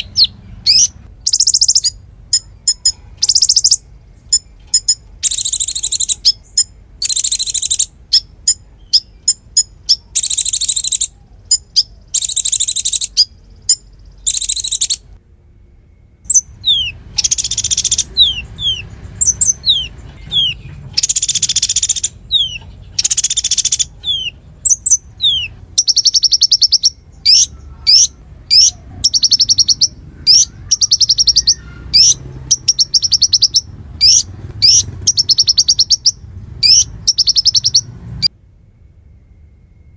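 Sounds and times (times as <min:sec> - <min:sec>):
songbird buzzy trills: 0:00.0 - 0:15.2, 0:15.8 - 0:38.3.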